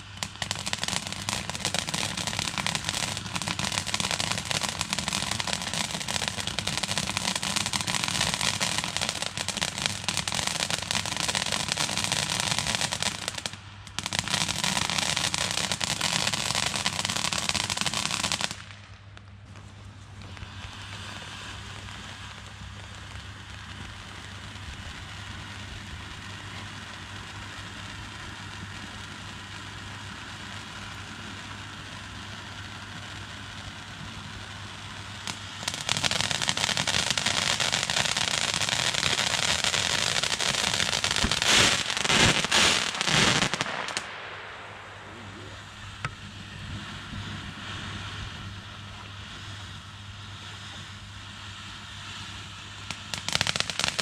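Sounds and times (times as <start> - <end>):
fireworks bangs: 0.0 - 47.4, 52.8 - 54.0
fireworks crackling: 0.0 - 54.0.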